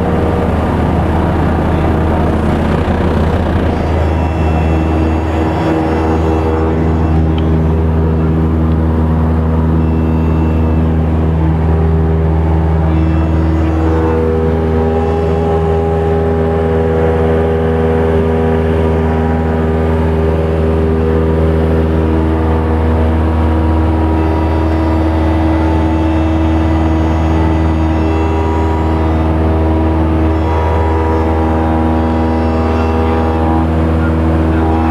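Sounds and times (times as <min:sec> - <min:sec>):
propeller aircraft engine droning: 0:00.0 - 0:34.9.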